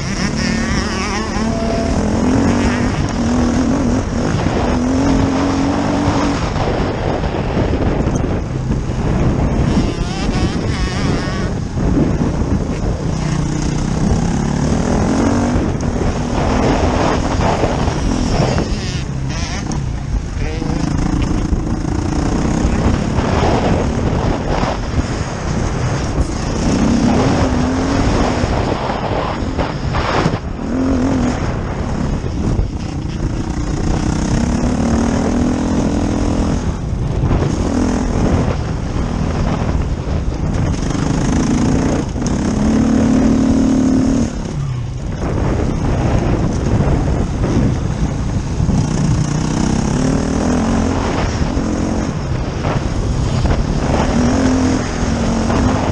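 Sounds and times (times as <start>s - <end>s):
dirt bike engine revving: 0.0s - 55.9s
heavy rushing noise: 0.0s - 55.9s.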